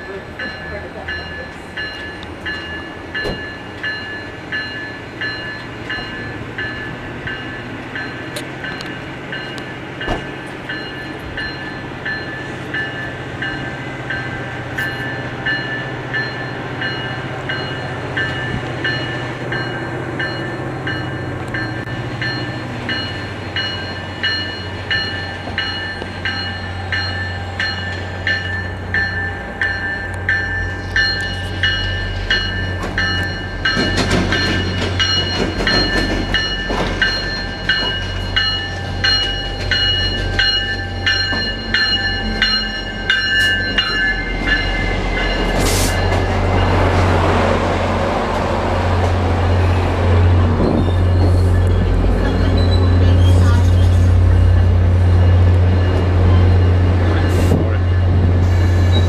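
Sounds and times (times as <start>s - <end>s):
locomotive bell ringing: 0.0s - 59.0s.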